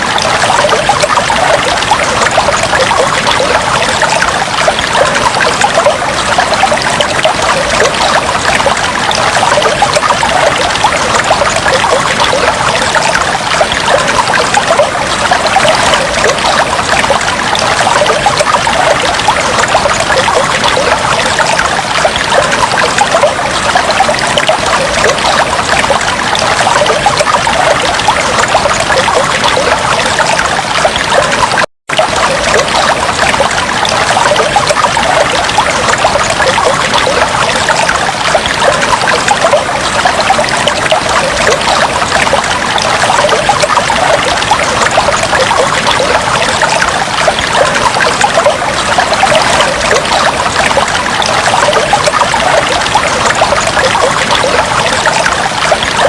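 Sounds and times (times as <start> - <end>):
fish tank water bubbling: 0.0 - 56.0.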